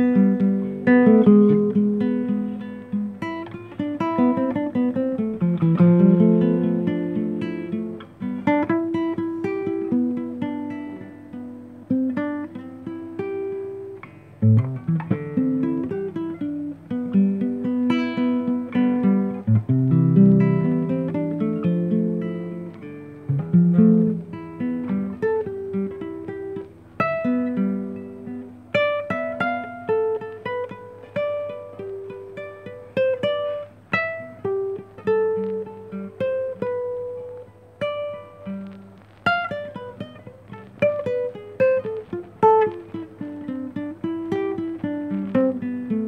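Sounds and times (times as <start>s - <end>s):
fingerstyle classical guitar: 0.0s - 46.0s.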